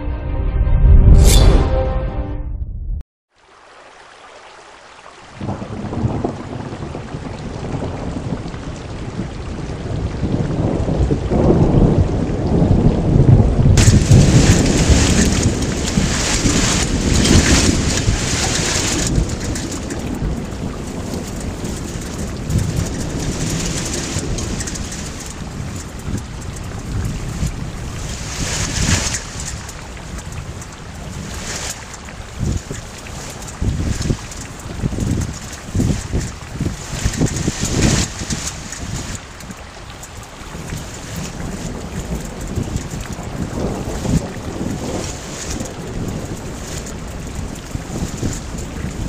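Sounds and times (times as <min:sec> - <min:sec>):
heavy rain pouring: 0:04.6 - 0:49.0
thunder rumbling: 0:05.4 - 0:39.5, 0:40.2 - 0:49.0.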